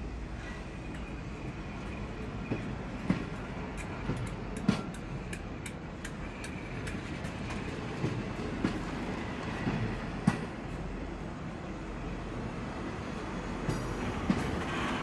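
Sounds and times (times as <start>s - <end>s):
train rumble: 0.0s - 15.0s
train wheels clicking on rail joints: 0.4s - 11.1s, 13.2s - 15.0s.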